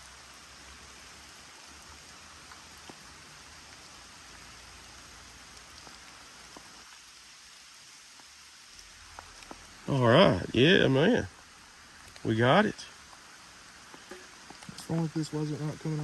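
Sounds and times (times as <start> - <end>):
raindrops ticking: 0.0 - 7.2, 8.1 - 16.0
rain hissing steadily: 0.0 - 16.0.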